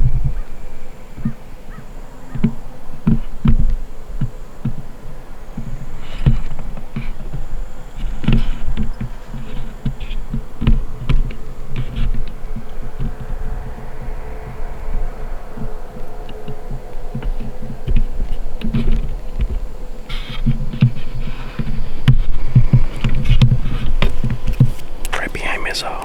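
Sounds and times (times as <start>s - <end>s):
gnats buzzing: 0.0s - 26.0s.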